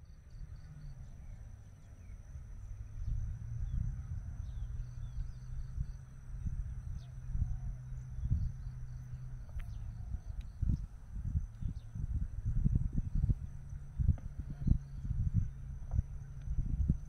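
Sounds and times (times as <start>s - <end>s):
high insect drone: 0.0s - 17.0s
wind rumble on microphone: 0.0s - 17.0s.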